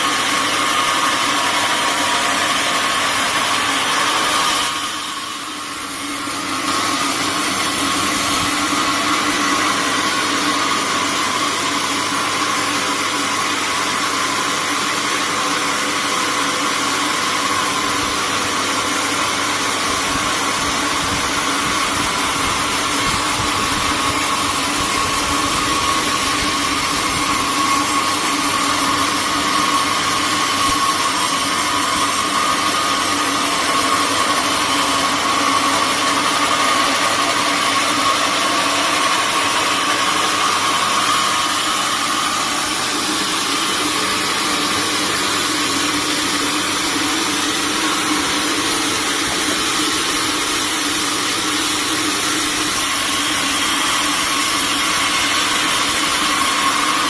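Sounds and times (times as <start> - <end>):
sawmill machinery running: 0.0 - 57.0
steady mechanical whine: 0.0 - 57.0.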